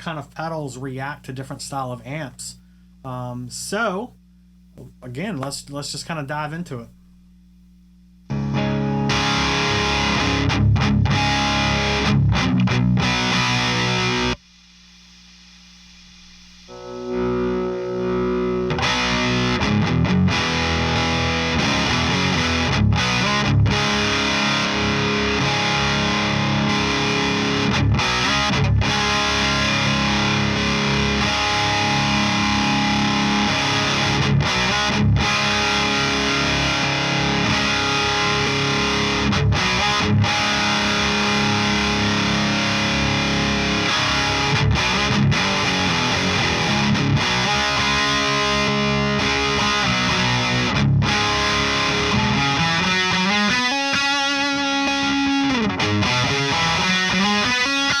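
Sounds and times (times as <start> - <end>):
distorted electric guitar riff: 8.3 - 14.8, 15.8 - 58.0.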